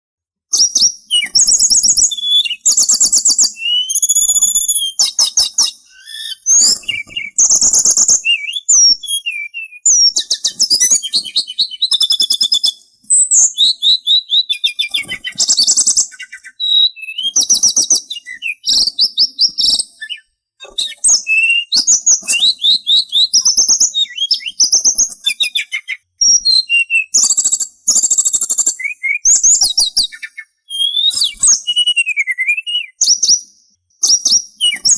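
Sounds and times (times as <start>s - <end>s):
songbird singing: 0.6s - 34.9s.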